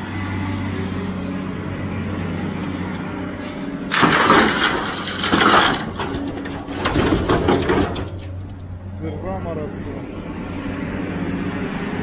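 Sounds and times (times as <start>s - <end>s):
diesel machinery droning: 0.0s - 12.0s.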